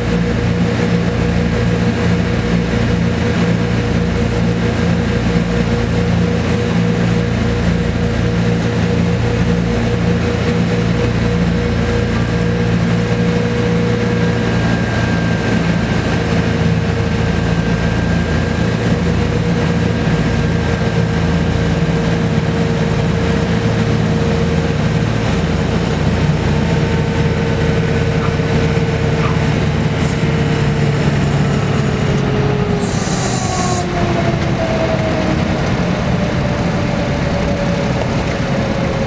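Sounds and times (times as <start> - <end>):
propeller plane engines droning: 0.0 - 39.0.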